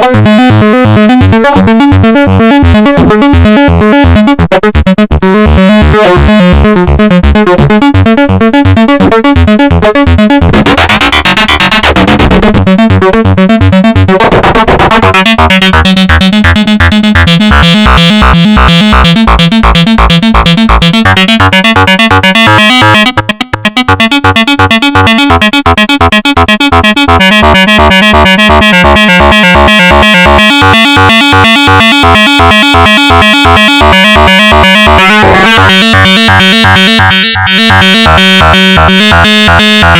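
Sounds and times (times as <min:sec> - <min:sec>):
synthesizer fast arpeggio: 0:00.0 - 0:39.9.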